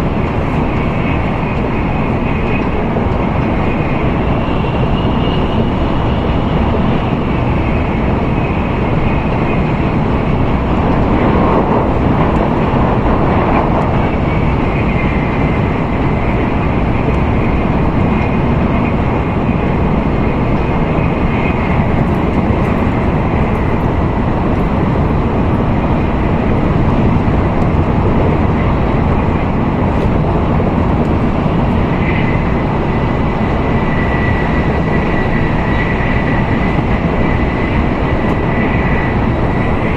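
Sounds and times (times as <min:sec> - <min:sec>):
faint high whine: 0:00.0 - 0:39.9
train running rumble: 0:00.0 - 0:39.9.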